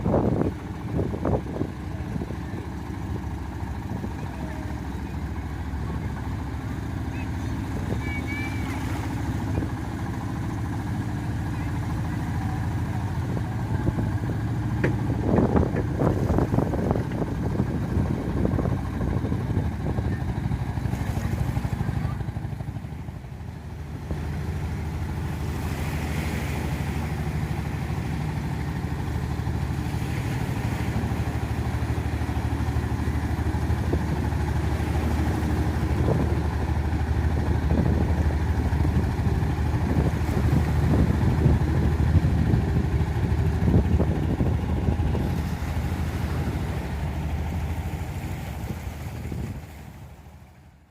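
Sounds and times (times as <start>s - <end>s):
surf: 0.0s - 50.8s
boat motor running: 0.0s - 50.9s
wind: 0.0s - 50.9s.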